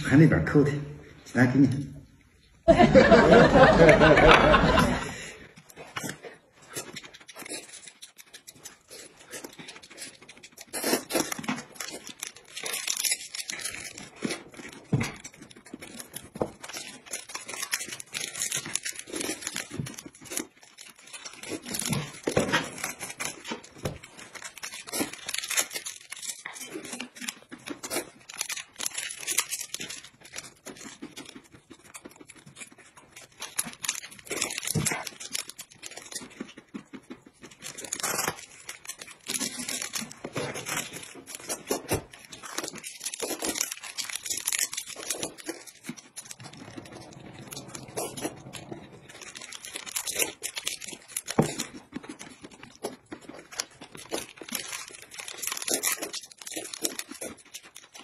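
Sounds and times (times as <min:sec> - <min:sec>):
noodles being slurped: 0:04.0 - 0:58.0
plastic wrappers crinkling and tearing: 0:04.0 - 0:58.0.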